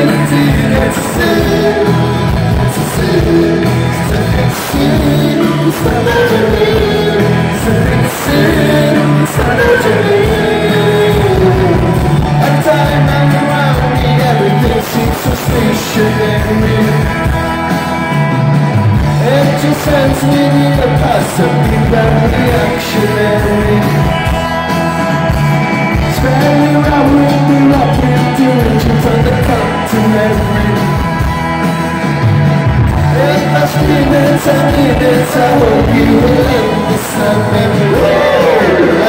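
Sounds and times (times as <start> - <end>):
person singing: 0.0 - 17.3, 19.1 - 24.5, 26.0 - 31.1, 33.1 - 39.0
bass guitar: 0.0 - 39.0
drums: 0.0 - 39.0
electric guitars: 0.0 - 39.0.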